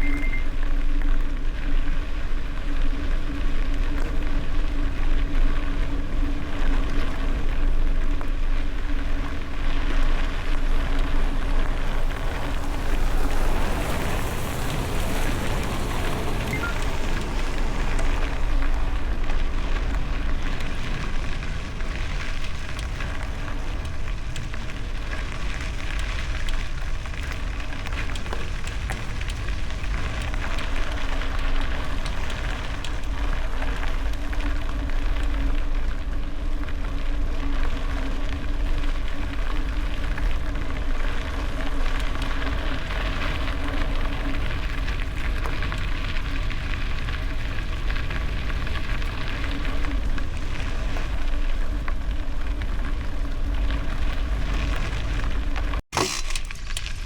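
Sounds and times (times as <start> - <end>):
wind rumble on microphone: 0.0 - 55.8
bicycle tyres on gravel: 0.0 - 57.0.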